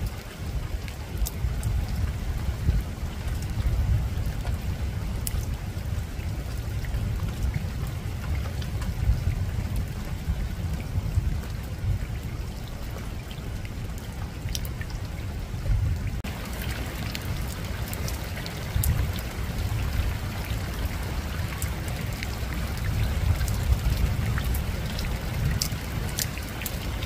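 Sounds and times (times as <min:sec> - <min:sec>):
rain on a rooftop: 0:00.0 - 0:27.0.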